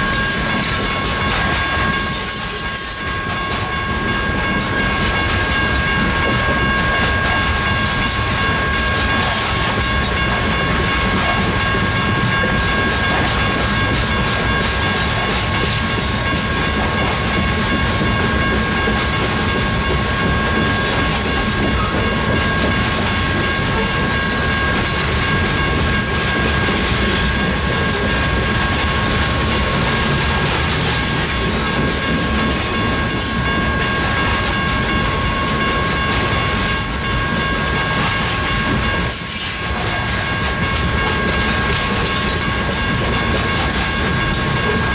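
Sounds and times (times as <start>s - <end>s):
steady high ringing tone: 0.0s - 44.9s
train wheels clacking over rails: 0.0s - 44.9s.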